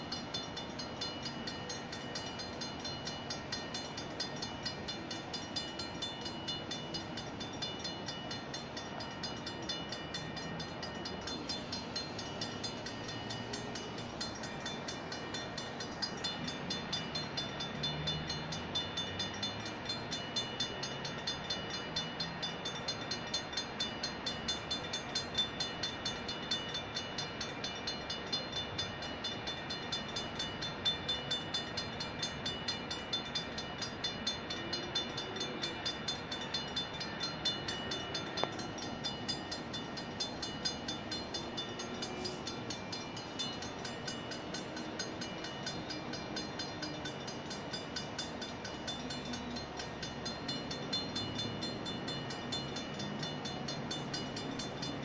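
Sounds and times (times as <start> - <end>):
crossing warning bell ringing: 0.0 - 55.0
freight train wheels rumbling: 0.0 - 55.0.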